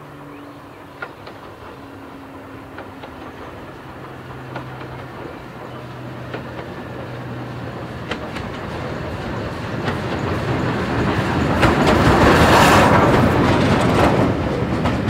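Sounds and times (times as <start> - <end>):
steam locomotive approaching: 0.0 - 15.0
wheel clicks on rails: 2.6 - 15.0.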